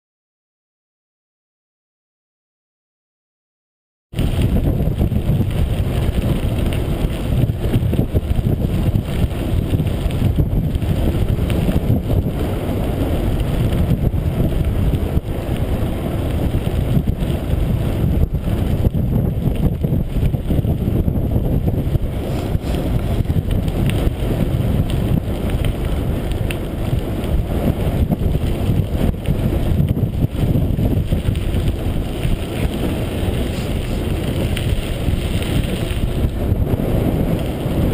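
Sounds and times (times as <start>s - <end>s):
wind rumbling on microphone: 4.1s - 37.9s
tyres on gravel trail: 4.2s - 37.9s.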